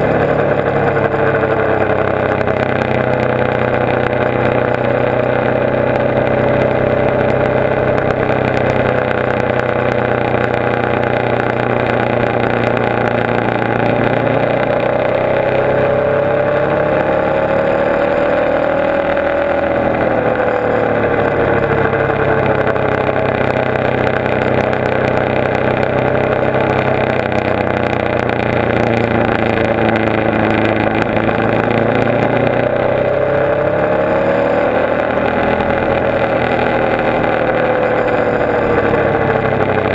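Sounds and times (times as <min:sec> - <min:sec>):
motorcycle engine at speed: 0:00.0 - 0:39.9
wind and road noise: 0:00.0 - 0:39.9.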